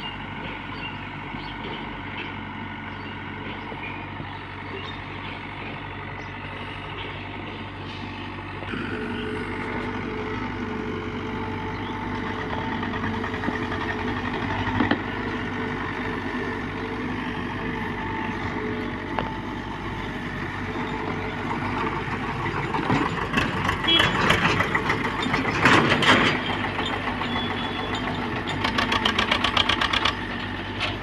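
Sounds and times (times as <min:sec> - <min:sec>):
backhoe diesel engine running: 0:00.0 - 0:31.0.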